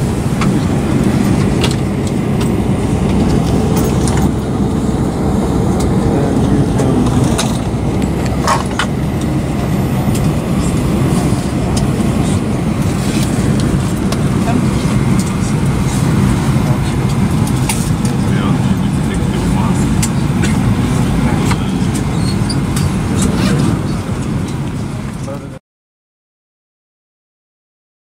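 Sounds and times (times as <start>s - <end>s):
air-conditioning rumble in cabin: 0.0s - 25.6s.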